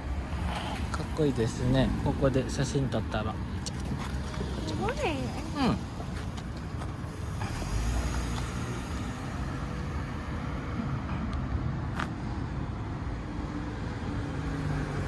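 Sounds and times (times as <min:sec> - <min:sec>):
vehicle passing with low rumble: 0:00.0 - 0:15.0.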